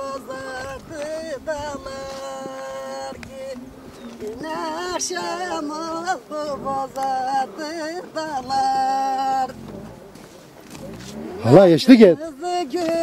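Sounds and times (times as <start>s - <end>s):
unaccompanied person singing: 0.0s - 13.0s.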